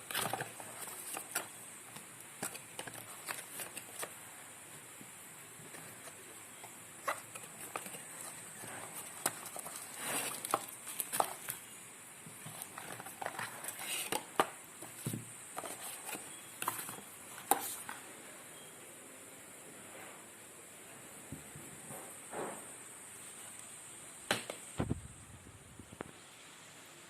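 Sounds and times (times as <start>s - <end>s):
faint hiss: 0.0s - 27.0s.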